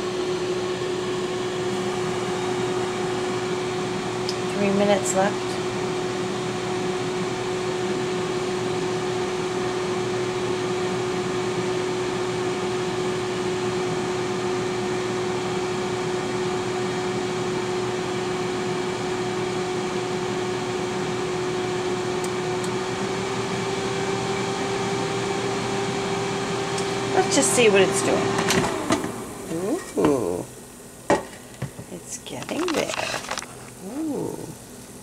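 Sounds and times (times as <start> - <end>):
air fryer fan whir: 0.0 - 35.0
air fryer hum: 0.0 - 35.0.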